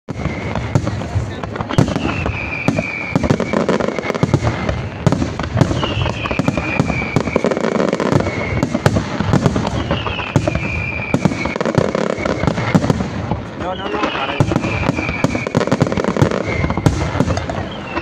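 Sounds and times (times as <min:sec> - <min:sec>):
fireworks bangs and crackles: 0:00.1 - 0:18.0
high falling whistle: 0:01.7 - 0:08.8, 0:09.6 - 0:12.8, 0:13.6 - 0:18.0.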